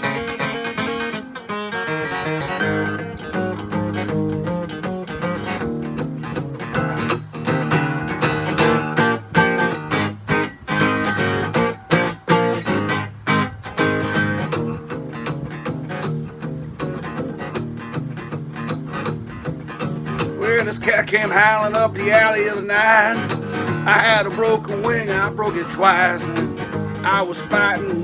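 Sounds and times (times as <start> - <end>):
acoustic guitar blues playing: 0.0 - 28.0.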